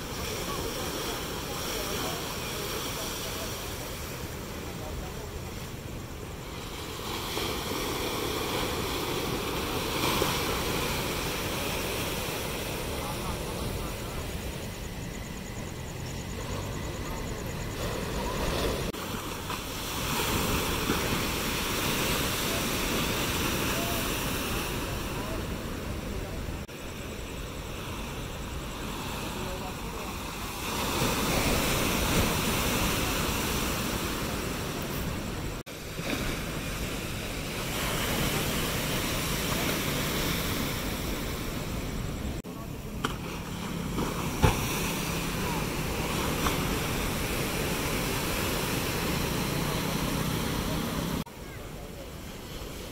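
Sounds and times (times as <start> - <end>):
waves breaking on rocky shore: 0.0 - 52.9.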